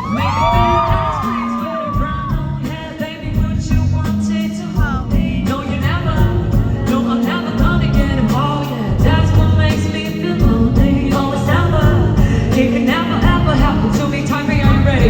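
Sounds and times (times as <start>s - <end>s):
person singing: 0.0s - 15.0s
steady beat: 0.0s - 15.0s.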